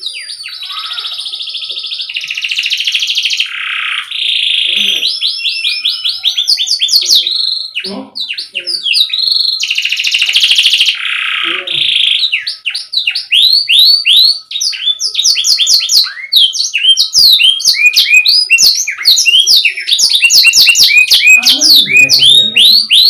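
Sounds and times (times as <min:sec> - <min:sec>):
canary singing: 0:00.0 - 0:23.0.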